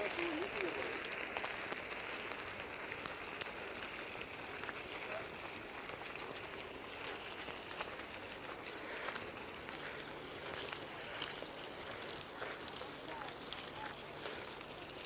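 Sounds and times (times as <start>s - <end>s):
faint ticks: 0.1s - 15.0s.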